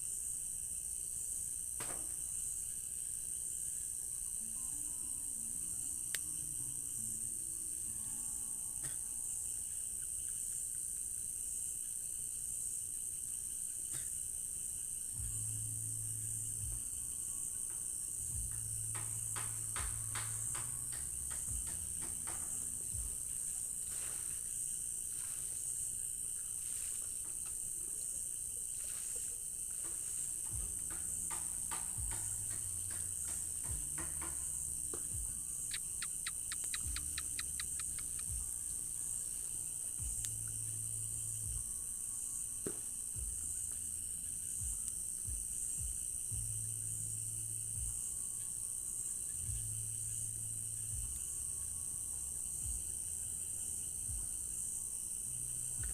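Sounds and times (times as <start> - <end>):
crickets trilling: 0.0 - 55.9
insects clicking: 0.0 - 55.9.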